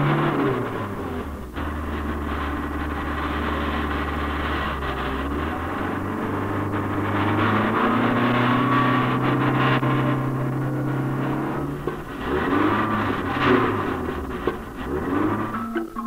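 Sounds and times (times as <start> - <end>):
car engine hum: 0.0 - 16.0
road and tyre noise: 0.0 - 16.0.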